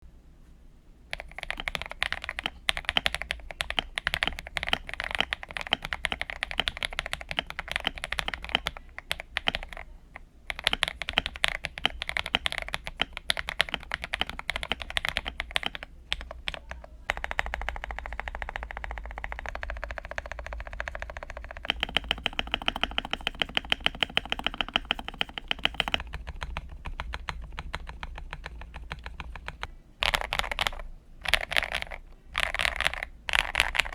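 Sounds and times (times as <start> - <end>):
mechanical keyboard typing: 1.1 - 33.9.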